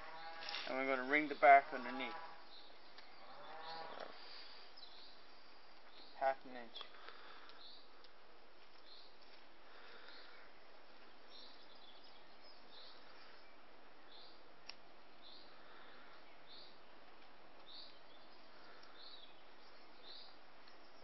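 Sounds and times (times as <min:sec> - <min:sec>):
bird chirping: 0:00.0 - 0:08.0, 0:08.8 - 0:14.5, 0:15.1 - 0:17.0, 0:17.6 - 0:21.0.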